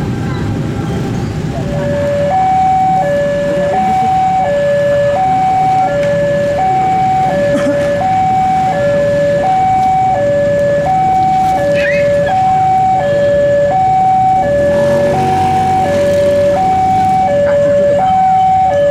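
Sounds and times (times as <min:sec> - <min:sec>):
passing train rumble: 0:00.0 - 0:18.9
two-tone crossing alarm: 0:01.5 - 0:18.9.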